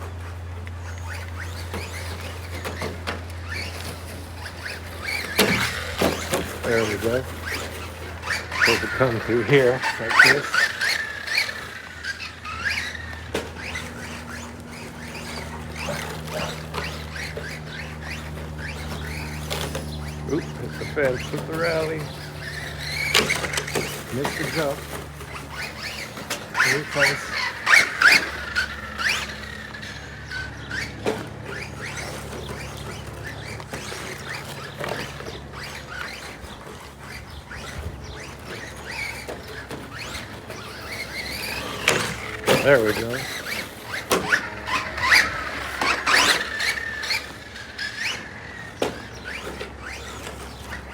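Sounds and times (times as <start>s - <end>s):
birds chirping: 0.0s - 50.9s
toy car electric motor whining: 0.0s - 50.9s.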